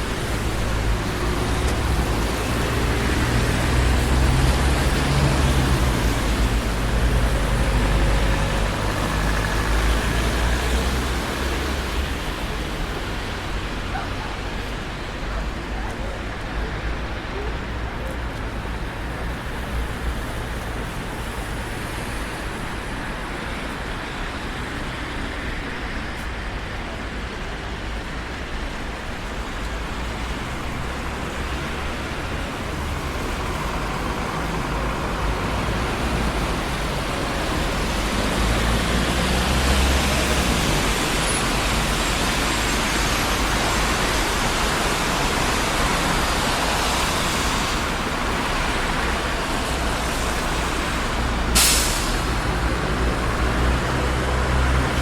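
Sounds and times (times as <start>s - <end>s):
low traffic rumble: 0.0s - 55.0s
tyre and engine noise: 0.0s - 55.0s.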